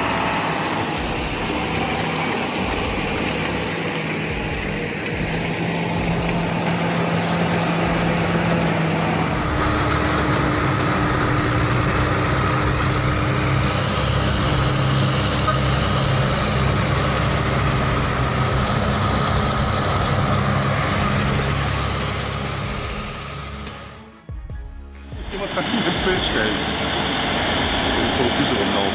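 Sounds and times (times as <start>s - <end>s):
tyre and road noise: 0.0s - 24.1s
heavy truck engine drone: 0.0s - 28.9s.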